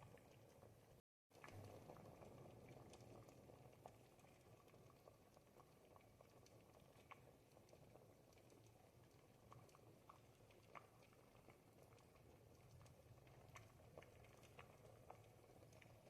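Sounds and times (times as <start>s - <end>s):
soup bubbling and popping: 0.0s - 16.0s.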